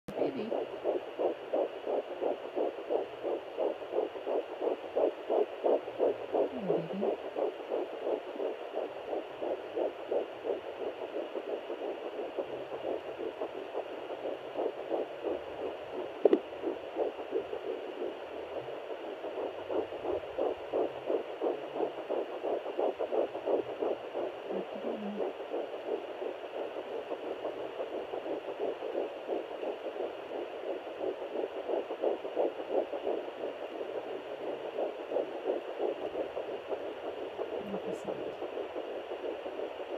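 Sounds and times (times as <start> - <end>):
fast fetal heartbeat pulses: 0.0 - 39.9.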